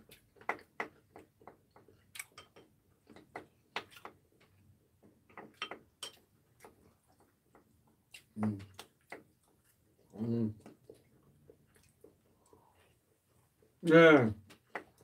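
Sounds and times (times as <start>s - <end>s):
chewing: 0.0s - 13.6s.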